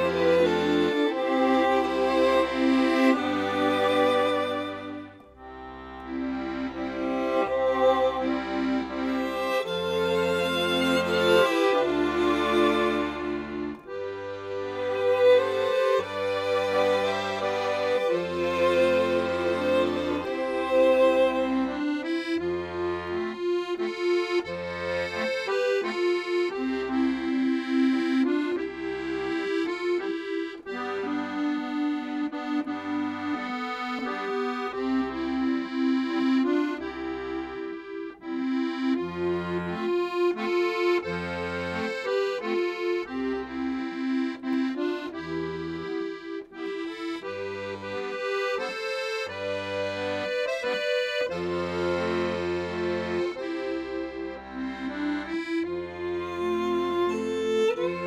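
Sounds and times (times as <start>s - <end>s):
accordion music: 0.0s - 58.0s.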